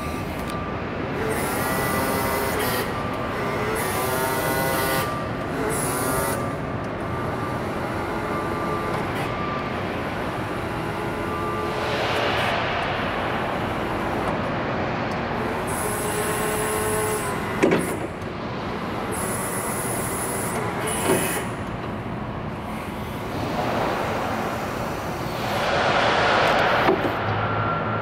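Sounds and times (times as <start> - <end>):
high whine: 0.0 - 20.7, 21.4 - 28.0
electric forklift motor hum: 0.0 - 25.4.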